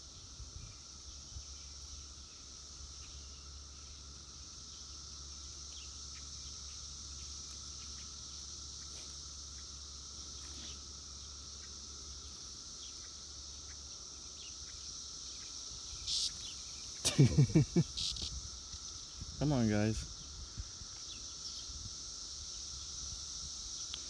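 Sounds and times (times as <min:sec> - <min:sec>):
cicadas high-pitched whine: 0:00.0 - 0:24.0
lower cicada drone: 0:00.0 - 0:24.0.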